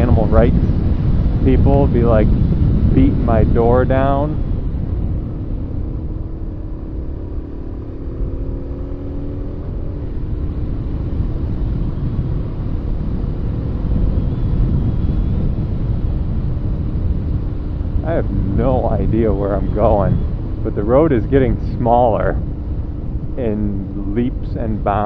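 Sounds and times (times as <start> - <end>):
motorcycle engine running: 0.0 - 25.0
road and wind rumble: 0.0 - 25.0.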